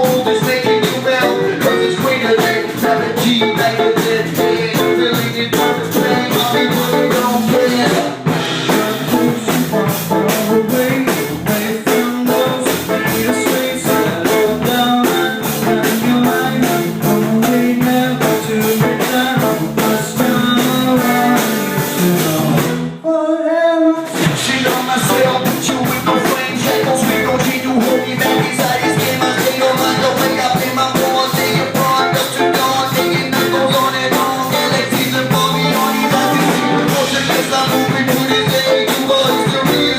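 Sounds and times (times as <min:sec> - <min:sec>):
drum kit beat: 0:00.0 - 0:23.0, 0:24.0 - 0:39.9
rock band playing live: 0:00.0 - 0:23.0, 0:24.0 - 0:39.9.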